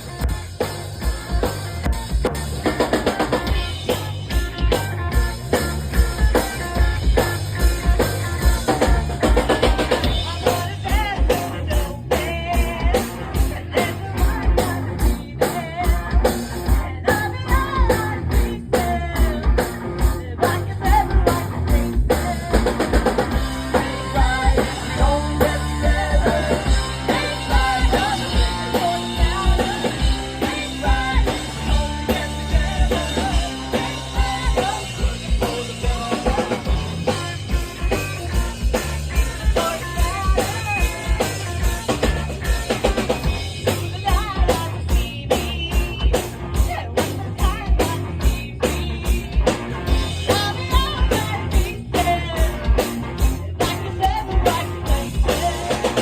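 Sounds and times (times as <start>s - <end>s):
distorted guitars: 0.0s - 56.0s
punk rock band playing live: 0.0s - 56.0s.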